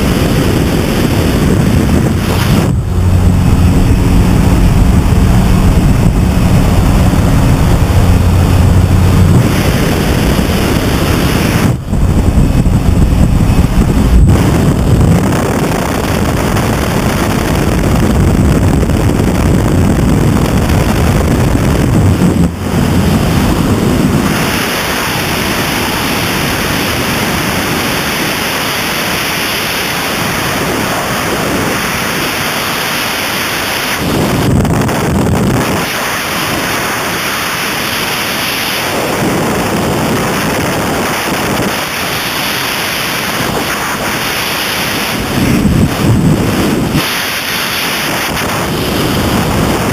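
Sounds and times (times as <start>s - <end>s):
propeller wash rumble: 0.0s - 49.9s
wind buffeting microphone: 0.0s - 49.9s.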